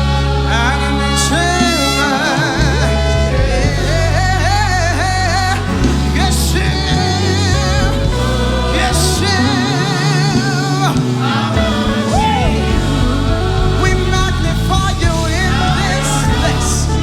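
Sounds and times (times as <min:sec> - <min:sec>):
gospel band with singers: 0:00.0 - 0:17.0.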